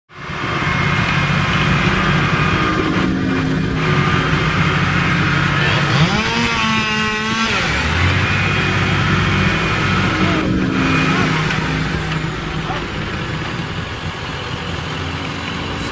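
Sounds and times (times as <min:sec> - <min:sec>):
engine running and revving: 0:00.1 - 0:15.9.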